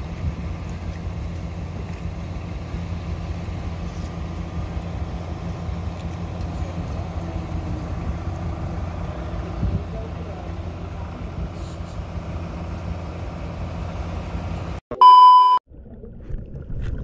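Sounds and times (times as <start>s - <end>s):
boat engine droning: 0.0s - 14.8s.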